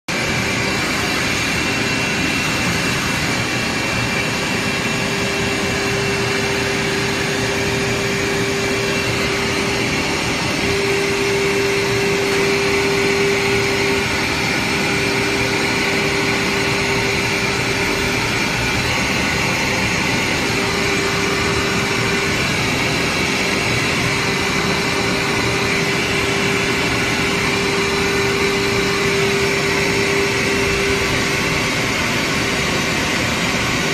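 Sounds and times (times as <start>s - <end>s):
constant rushing noise: 0.1s - 33.9s
spindle whine: 0.1s - 33.9s.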